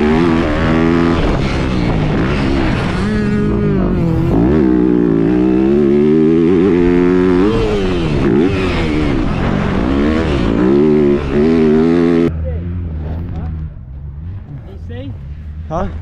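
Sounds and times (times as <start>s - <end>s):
dirt bike engine revving: 0.0s - 15.8s.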